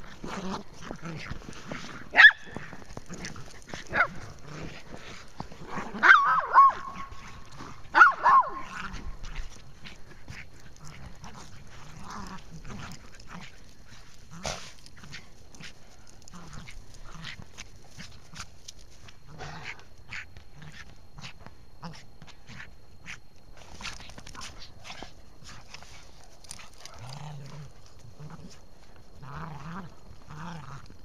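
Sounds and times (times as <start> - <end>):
dogs barking and yipping: 0.0 - 28.6.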